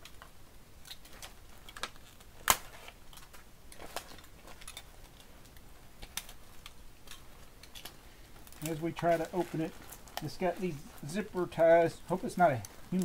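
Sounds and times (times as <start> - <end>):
plastic bag rustling: 1.1 - 13.0.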